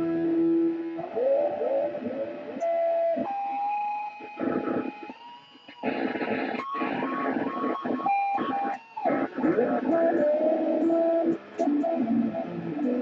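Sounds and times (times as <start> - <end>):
noisy electric guitar drone: 0.0 - 13.0.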